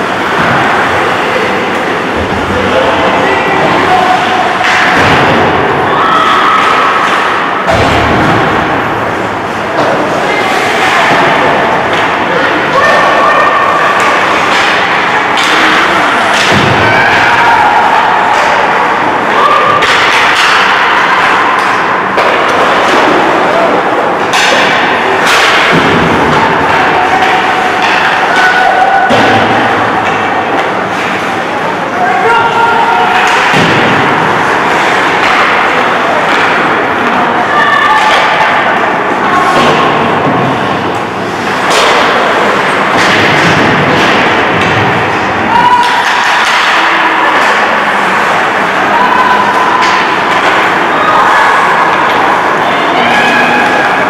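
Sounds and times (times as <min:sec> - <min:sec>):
echoing rink din: 0:00.0 - 0:54.0
loud rushing noise: 0:00.0 - 0:54.0
sticks and puck hitting boards: 0:00.0 - 0:54.0.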